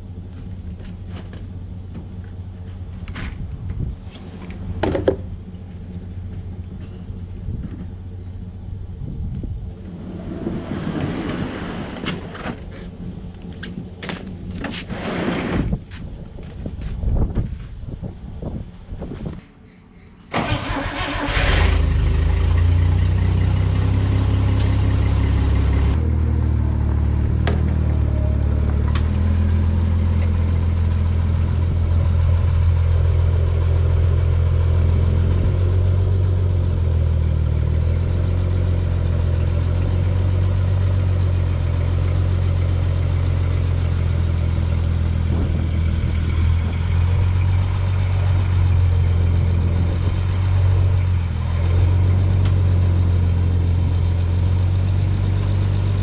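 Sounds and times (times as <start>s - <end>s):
vehicle engine running: 0.0s - 10.6s, 20.3s - 56.0s.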